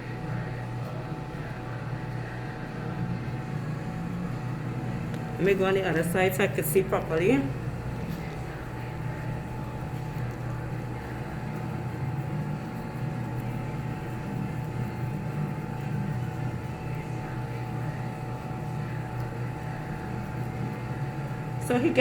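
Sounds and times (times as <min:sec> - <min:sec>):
machine hum with thin whine: 0:00.0 - 0:22.0.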